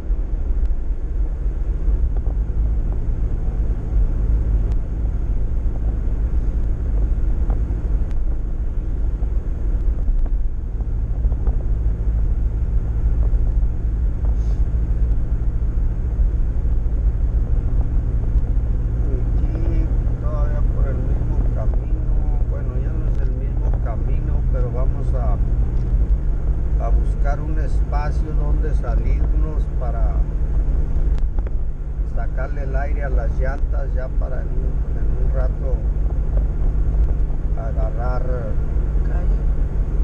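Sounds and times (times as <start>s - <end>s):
vehicle driving rumble: 0.0s - 40.0s.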